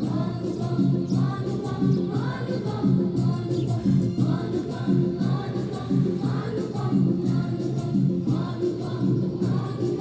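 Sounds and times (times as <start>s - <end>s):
group singing: 0.0s - 10.0s.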